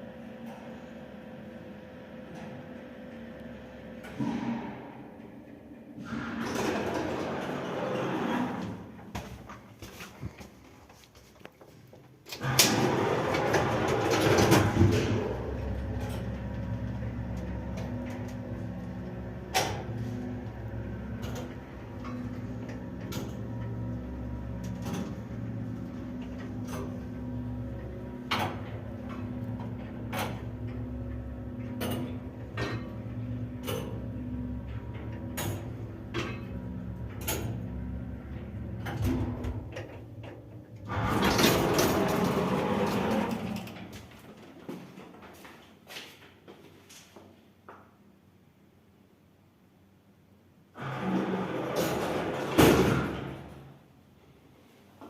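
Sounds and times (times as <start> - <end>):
lift motor hum: 0.0 - 9.2, 12.3 - 45.1, 50.7 - 54.0.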